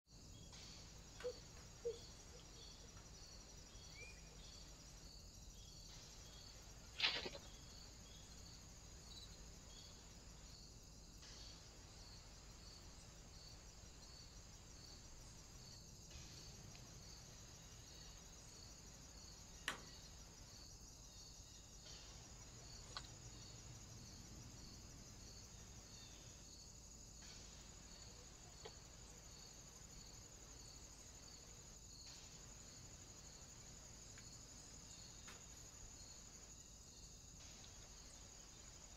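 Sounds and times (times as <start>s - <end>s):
insect chirring: 0.1s - 38.9s.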